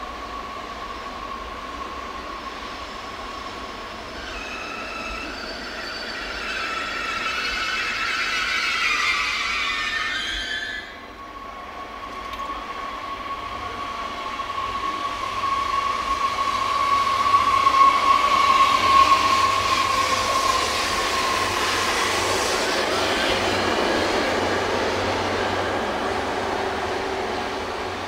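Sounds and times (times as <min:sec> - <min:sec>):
high train whine: 0:00.0 - 0:28.0.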